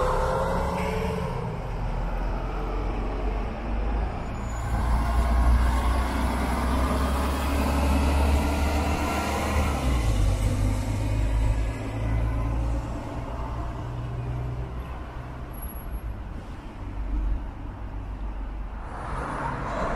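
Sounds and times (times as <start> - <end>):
bus engine rumble passing: 0.0 - 19.9
road traffic noise: 0.0 - 19.9.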